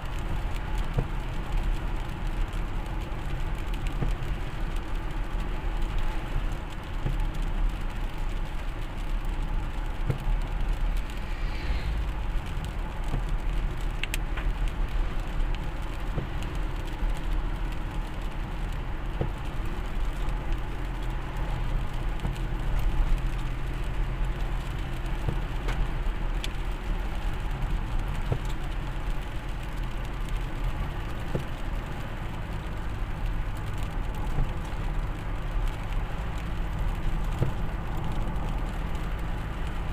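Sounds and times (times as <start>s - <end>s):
road and wind noise: 0.0s - 39.9s
vehicle engine hum: 0.0s - 39.9s.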